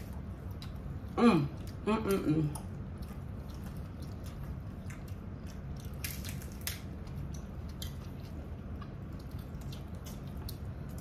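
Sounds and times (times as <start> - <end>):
people chewing and biting: 0.0 - 11.0
steady low hum: 0.0 - 11.0.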